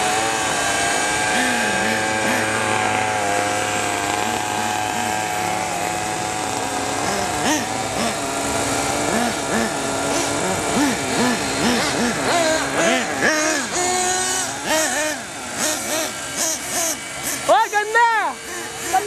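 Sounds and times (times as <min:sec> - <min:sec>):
model helicopter rotor whine: 0:00.0 - 0:19.0
small model engine revving: 0:00.0 - 0:19.0.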